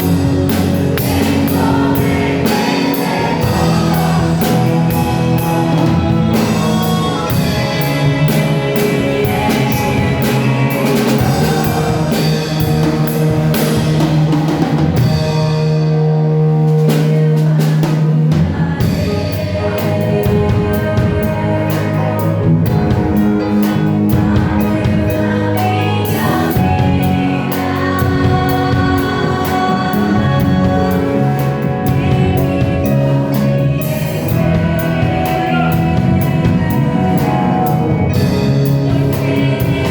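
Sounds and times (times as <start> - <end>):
drum kit: 0.0 - 39.9
held low chord: 0.0 - 39.9
people singing praise music: 0.0 - 39.9.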